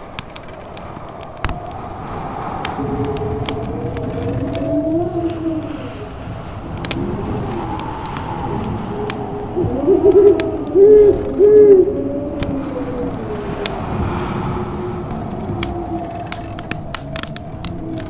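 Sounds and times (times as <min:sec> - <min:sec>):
wind howling: 0:00.0 - 0:18.0
wood fire crackling: 0:00.0 - 0:18.0.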